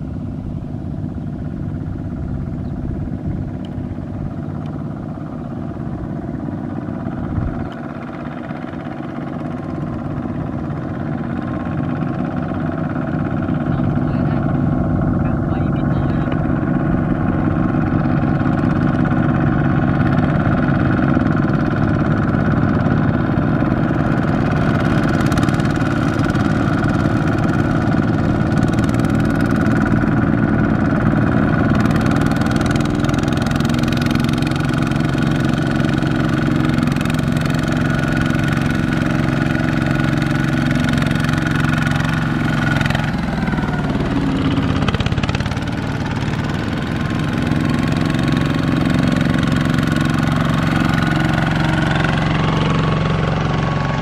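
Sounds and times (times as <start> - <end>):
diesel tractor engines running: 0.0 - 54.0.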